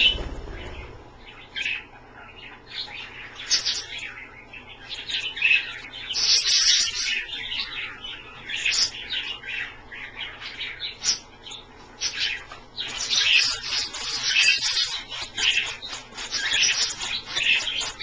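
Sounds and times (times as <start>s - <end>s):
budgies chirping and chattering: 0.0s - 18.0s.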